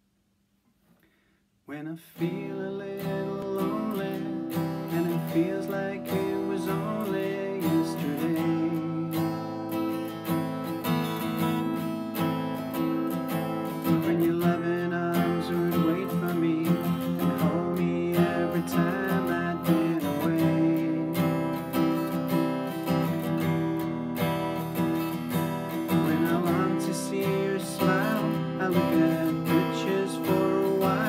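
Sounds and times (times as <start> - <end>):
acoustic guitar strumming: 1.7 - 31.0.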